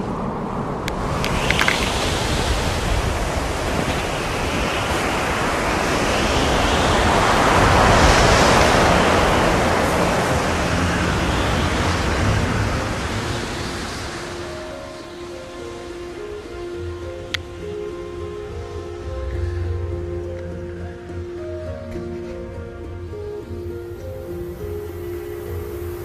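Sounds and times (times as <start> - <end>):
wind blasting across microphone: 0.0 - 26.0.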